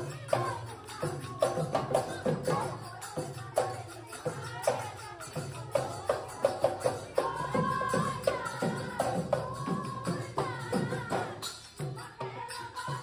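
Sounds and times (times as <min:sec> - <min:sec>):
background music with percussion: 0:00.0 - 0:13.0.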